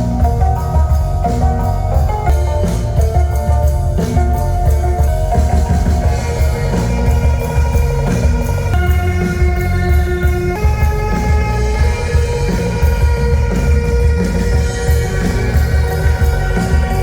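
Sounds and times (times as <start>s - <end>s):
drums: 0.0s - 17.0s
electric bass line: 0.0s - 17.0s
hammered dulcimer notes: 0.0s - 17.0s.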